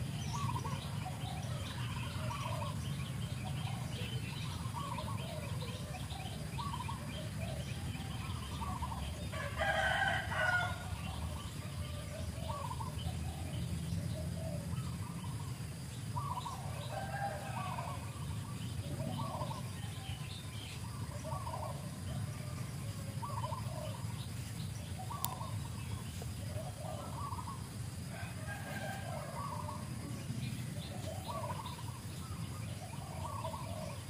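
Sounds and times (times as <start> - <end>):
chirping animal calls: 0.0 - 34.0
steady low hum: 0.0 - 34.0.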